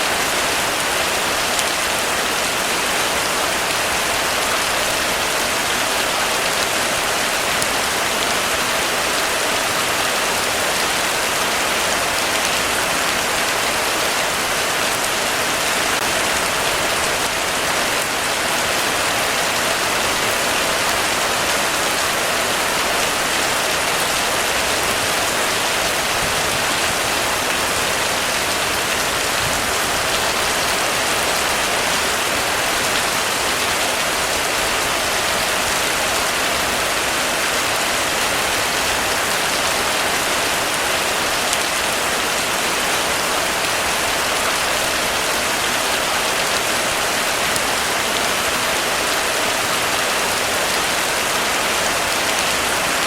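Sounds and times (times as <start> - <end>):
heavy rain on a roof: 0.0 - 53.0.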